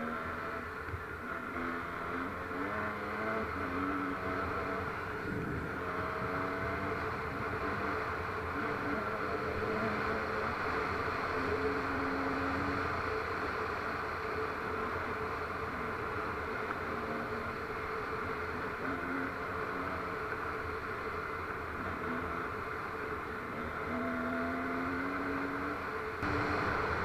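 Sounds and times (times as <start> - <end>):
road noise: 0.0 - 27.0
vehicle engine running: 0.0 - 27.0.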